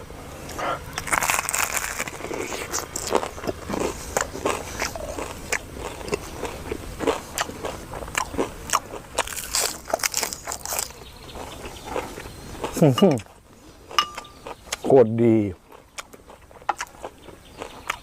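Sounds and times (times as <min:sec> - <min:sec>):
chewing: 0:00.4 - 0:18.0
crunching crispy food: 0:00.5 - 0:18.0.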